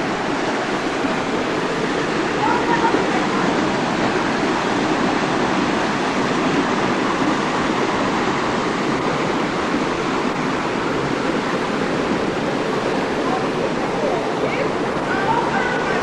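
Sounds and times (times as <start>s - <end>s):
waterfall pouring into pool: 0.0s - 15.1s.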